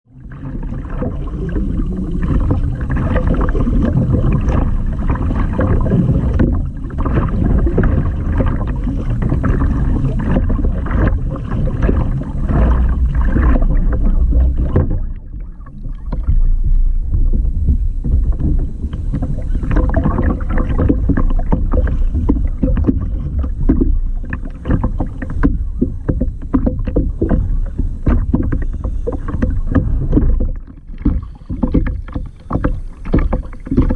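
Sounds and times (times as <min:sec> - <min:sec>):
seawater splashing around kayak: 0:00.1 - 0:33.9.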